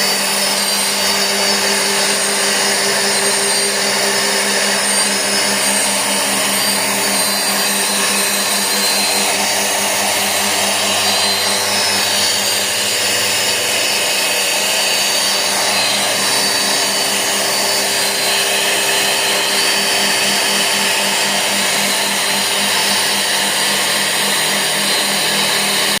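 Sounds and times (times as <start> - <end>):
router spindle cutting panel: 0.0 - 26.0.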